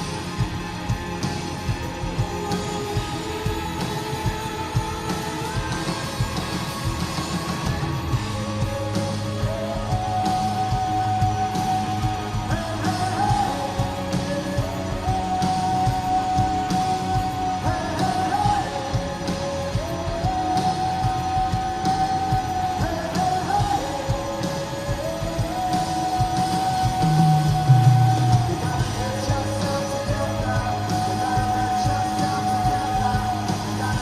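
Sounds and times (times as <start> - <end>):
live rock band playing: 0.0 - 34.0
person singing: 0.0 - 34.0
pounding drum beat: 0.0 - 34.0.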